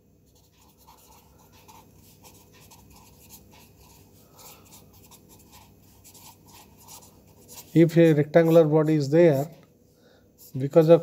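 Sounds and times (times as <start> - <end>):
pen scratching on paper: 0.3 - 9.5.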